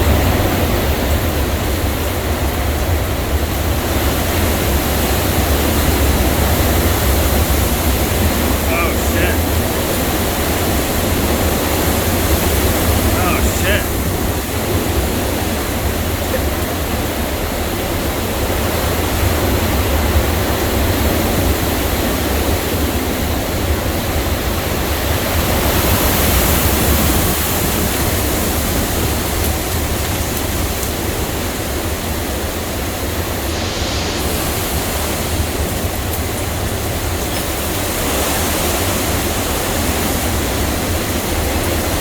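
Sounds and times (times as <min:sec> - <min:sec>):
hurricane wind gusting: 0:00.0 - 0:42.0.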